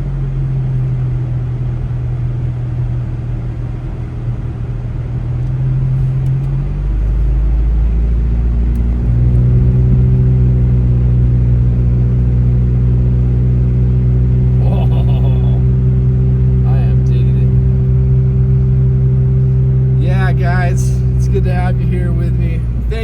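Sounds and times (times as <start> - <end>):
car engine: 0.0 - 23.0
road noise inside car: 0.0 - 23.0.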